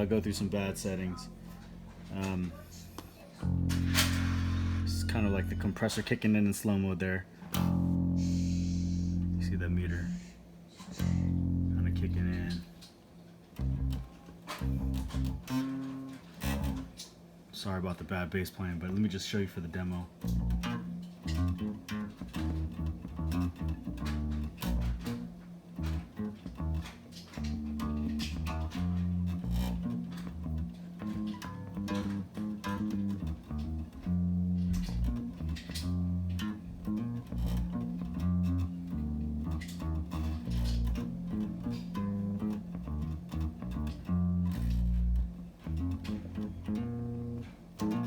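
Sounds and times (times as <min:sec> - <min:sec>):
electric bass guitar riffs: 0:00.0 - 0:12.8, 0:13.6 - 0:17.1, 0:19.7 - 0:48.0.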